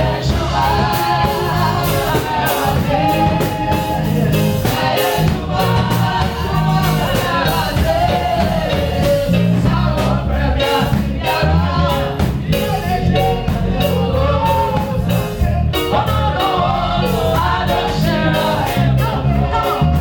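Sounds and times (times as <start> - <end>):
bass line: 0.0 - 20.0
steady drum beat: 0.0 - 20.0.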